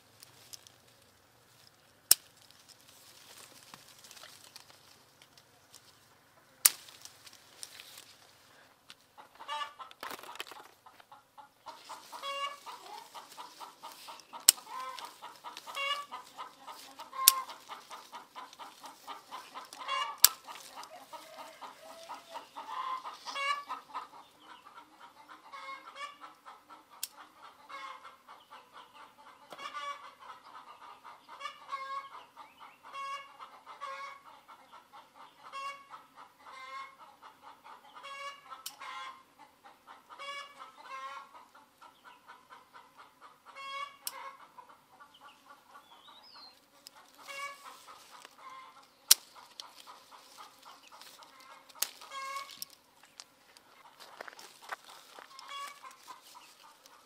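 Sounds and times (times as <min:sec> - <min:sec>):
chickens clucking: 0:03.2 - 0:57.0.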